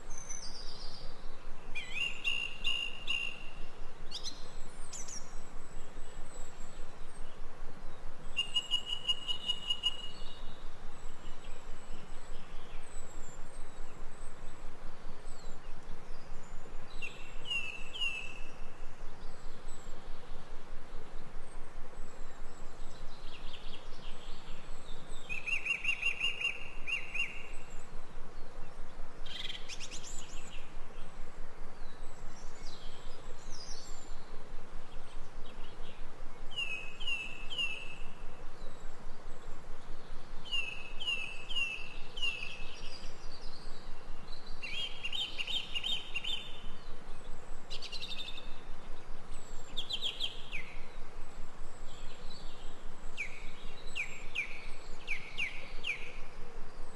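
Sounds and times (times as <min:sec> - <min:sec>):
forest birds calling: 0:00.0 - 0:56.9
steady background hiss: 0:00.0 - 0:56.9.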